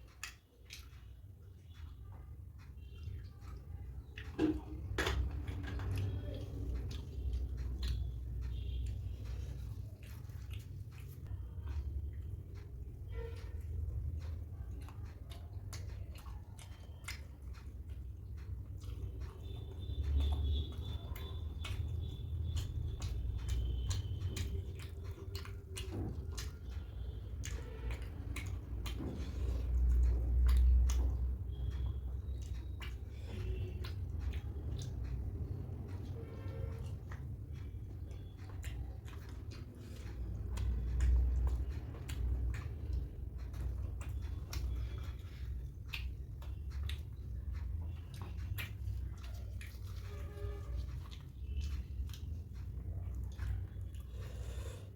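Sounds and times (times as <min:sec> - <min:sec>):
wet chewing and smacking: 0:00.0 - 0:54.9.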